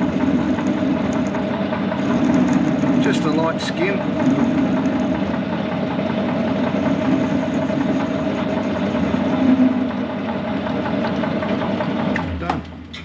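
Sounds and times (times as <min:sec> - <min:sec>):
metal lathe cutting: 0:00.0 - 0:12.2.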